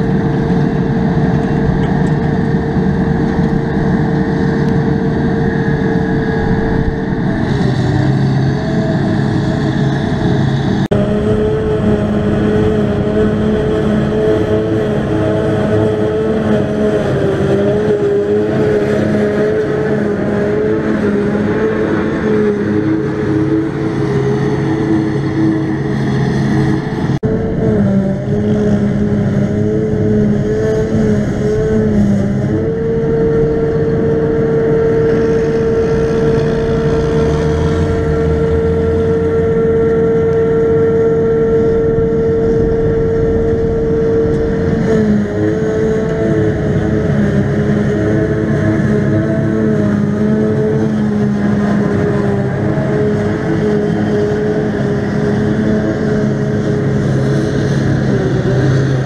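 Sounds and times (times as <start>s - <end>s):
forage harvester drone: 0.0s - 59.0s
tractor engines: 0.0s - 59.0s.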